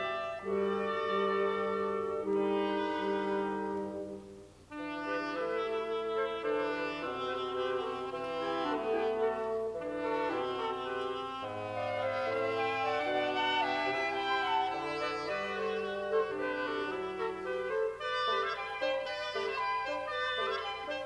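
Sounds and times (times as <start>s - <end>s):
wind quintet playing chords: 0.0s - 21.0s.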